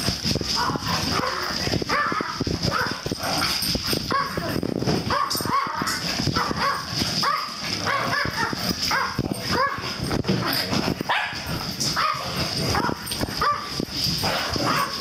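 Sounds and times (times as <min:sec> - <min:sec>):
dogs barking in play: 0:00.0 - 0:15.0
paws thumping on carpet: 0:00.0 - 0:15.0.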